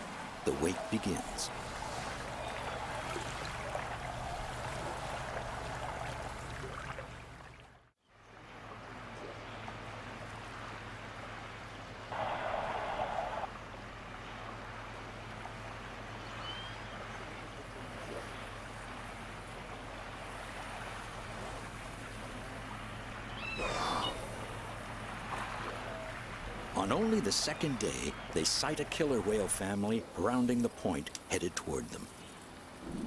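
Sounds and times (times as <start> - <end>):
water moving along a shore: 0.0 - 33.0.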